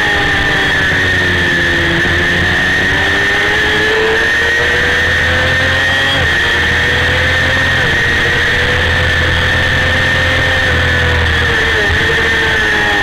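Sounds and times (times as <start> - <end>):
motorcycle engine at high revs: 0.0 - 13.0
wind and road noise: 0.0 - 13.0.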